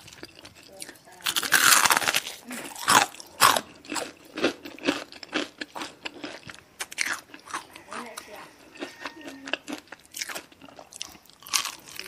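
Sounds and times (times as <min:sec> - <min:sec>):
fried chicken crunching: 0:00.0 - 0:12.0
wet chewing mouth sounds: 0:00.0 - 0:12.0.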